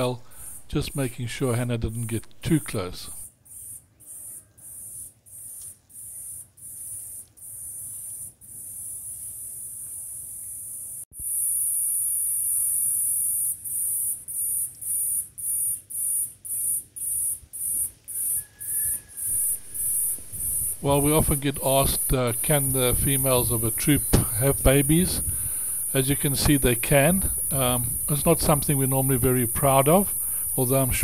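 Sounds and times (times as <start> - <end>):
insects buzzing in pulsing trill: 0.0 - 31.0.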